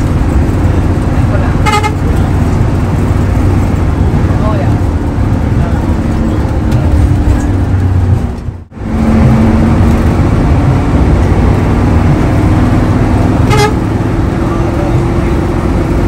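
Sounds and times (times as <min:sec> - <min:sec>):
bus diesel engine running: 0:00.0 - 0:16.0
road rumble: 0:00.0 - 0:16.0.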